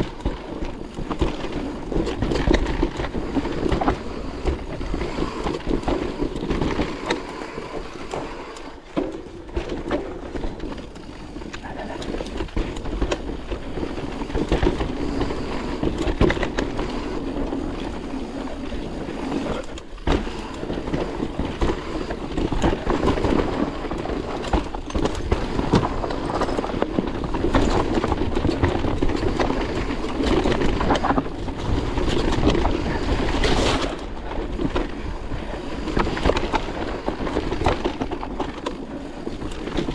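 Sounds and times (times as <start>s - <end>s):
bike rattling over bumps: 0.0s - 39.9s
tyres rolling over dirt: 0.0s - 39.9s.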